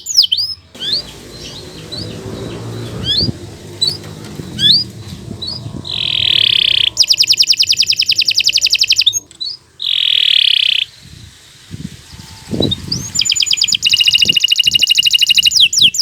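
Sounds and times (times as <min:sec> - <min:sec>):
canary singing: 0:00.0 - 0:11.2, 0:12.0 - 0:16.0.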